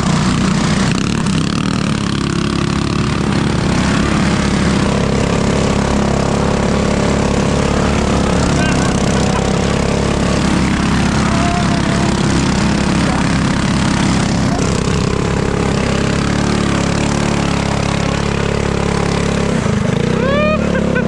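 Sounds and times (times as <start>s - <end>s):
small gas engine running: 0.0s - 21.0s.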